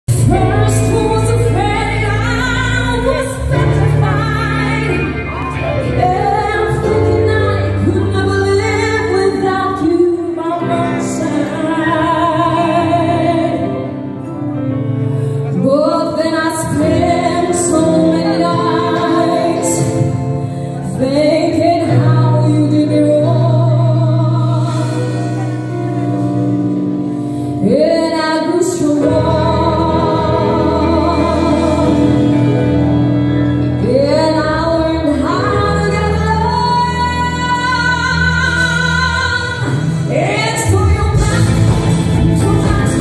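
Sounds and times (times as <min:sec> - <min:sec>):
bass: 0:00.0 - 0:43.0
woman singing: 0:00.1 - 0:14.2, 0:15.5 - 0:25.6, 0:27.5 - 0:43.0
electric guitar: 0:00.1 - 0:43.0.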